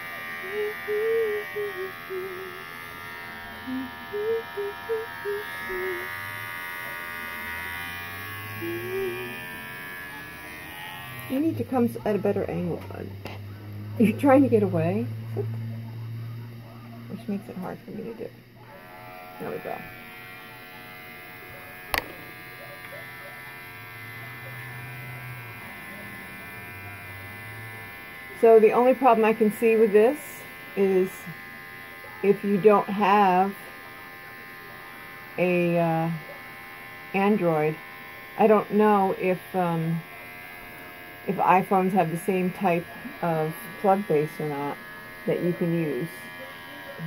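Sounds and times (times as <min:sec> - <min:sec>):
electric pet clipper buzzing: 0:00.0 - 0:47.0.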